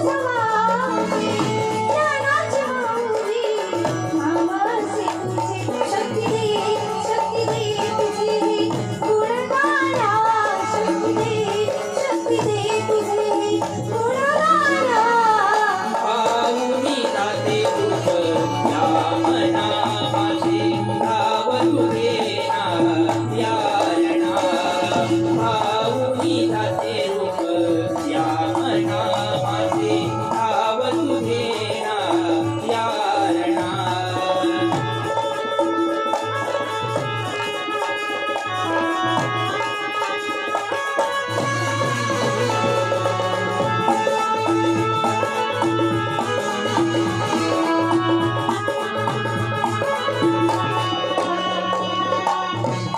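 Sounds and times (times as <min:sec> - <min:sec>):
hand drum: 0:00.0 - 0:52.9
rattling percussion: 0:00.0 - 0:52.9.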